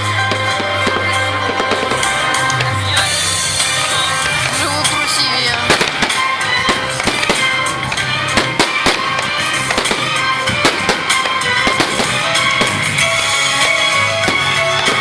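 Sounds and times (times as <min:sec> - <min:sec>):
fireworks bursting and crackling: 0:00.0 - 0:15.0
loud music with bass line: 0:00.0 - 0:15.0.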